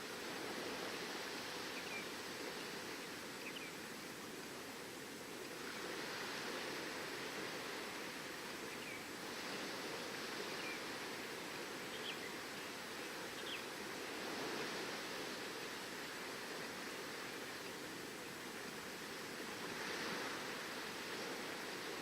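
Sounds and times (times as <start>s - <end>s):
ocean waves on shore: 0.0s - 22.0s.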